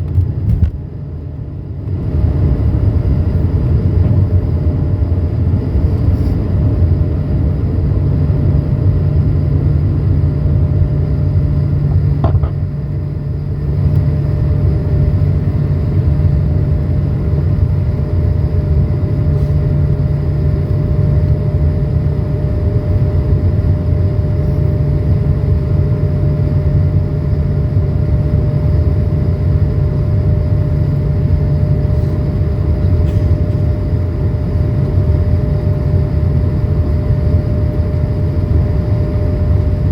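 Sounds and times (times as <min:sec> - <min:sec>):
airplane cabin engine rumble: 0:00.0 - 0:39.9
steady hum: 0:00.0 - 0:39.9.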